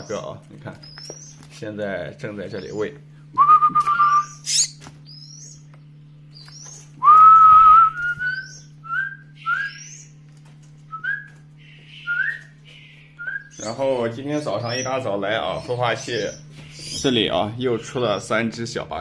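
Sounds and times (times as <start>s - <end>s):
birds begging chirps: 0.0s - 19.0s
steady low hum: 0.0s - 19.0s.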